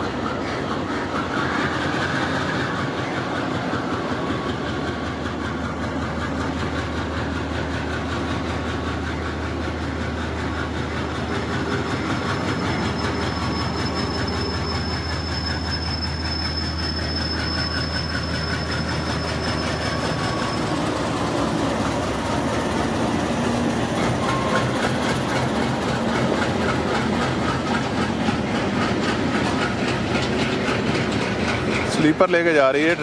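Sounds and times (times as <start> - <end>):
high wheel squeal: 0.0 - 33.0
train wheels clattering over rail joints: 0.0 - 33.0.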